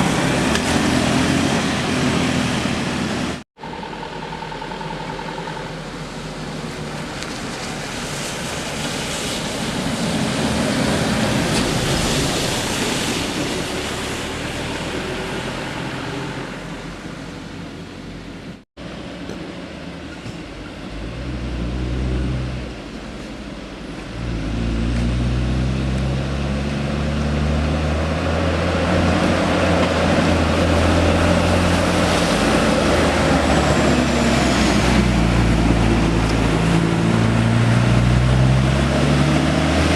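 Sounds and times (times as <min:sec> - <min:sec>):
heavy road vehicles passing: 0:00.0 - 0:39.9.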